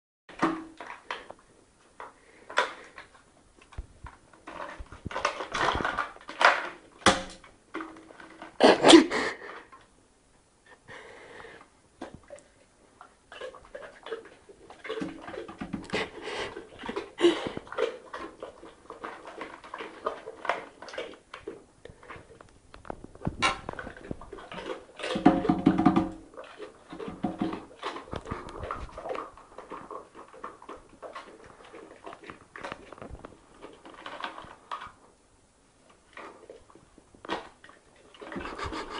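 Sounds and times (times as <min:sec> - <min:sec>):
dog licking and chewing: 0:02.0 - 0:07.1, 0:12.0 - 0:35.1, 0:35.8 - 0:38.9.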